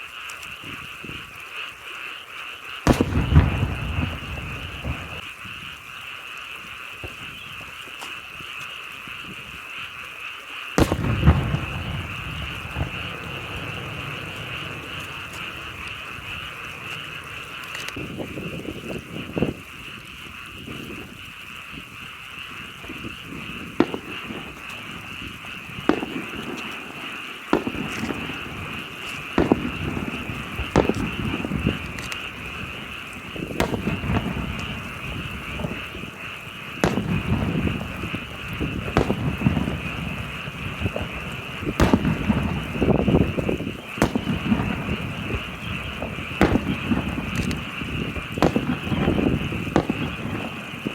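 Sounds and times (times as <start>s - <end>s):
frogs croaking: 0.0s - 50.9s
firework bursting with rumble: 2.8s - 9.9s, 10.8s - 50.9s.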